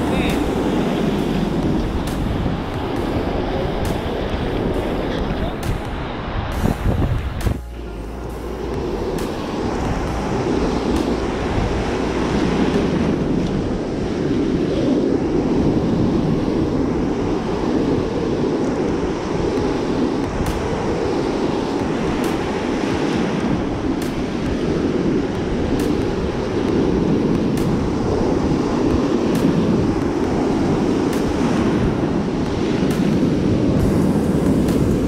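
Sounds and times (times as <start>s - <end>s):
ocean surf breaking on beach: 0.0s - 7.7s, 8.4s - 35.0s
wind buffeting microphone: 0.0s - 35.0s.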